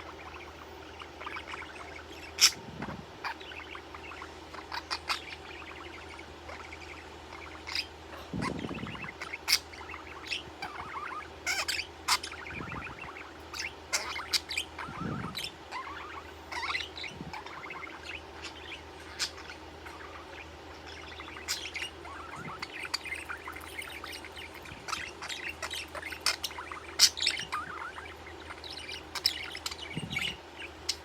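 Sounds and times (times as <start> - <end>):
budgerigar chirping and chattering: 0.0 - 31.0.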